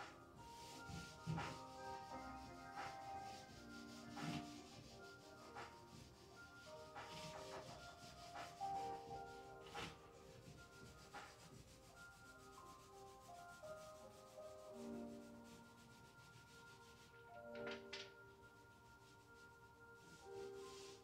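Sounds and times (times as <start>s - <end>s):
lo-fi chillhop music: 0.0s - 21.0s.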